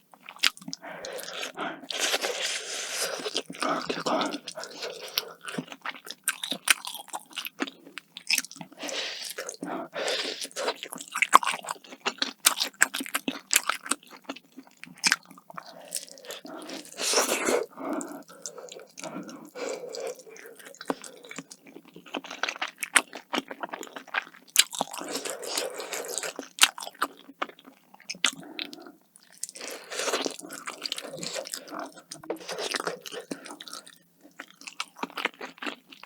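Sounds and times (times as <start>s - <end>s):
person chewing crunchy food: 0.2s - 36.0s.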